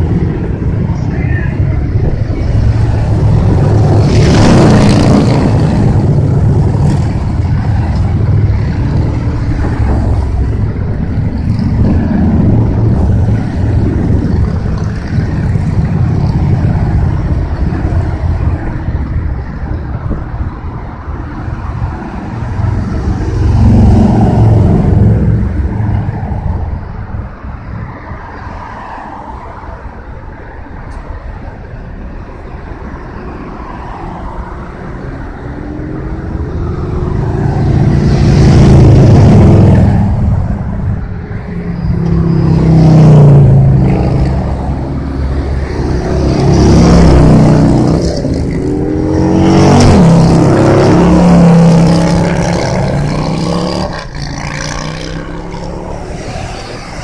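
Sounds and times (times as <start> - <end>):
motorcycles and vehicles passing: 0.0 - 57.0.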